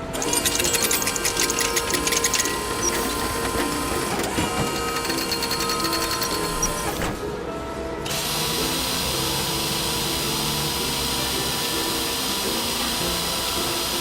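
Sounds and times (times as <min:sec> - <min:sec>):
small motor whirring: 0:00.0 - 0:07.2, 0:08.1 - 0:14.0.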